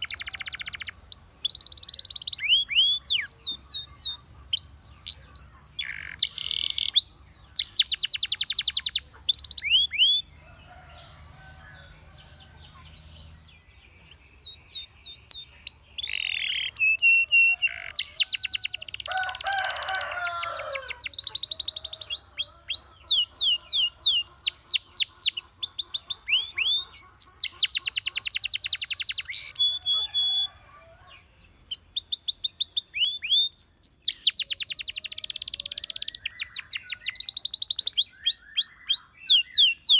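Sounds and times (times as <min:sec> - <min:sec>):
canary singing trills and whistles: 0:00.0 - 0:10.4, 0:13.3 - 0:39.9.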